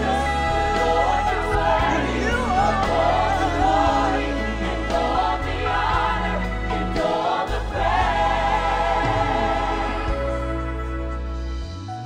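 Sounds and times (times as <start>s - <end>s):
choir singing: 0.0s - 11.6s.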